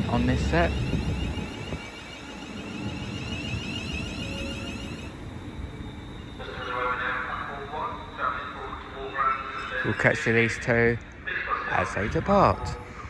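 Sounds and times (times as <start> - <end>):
train electrical whine: 0.0 - 13.0.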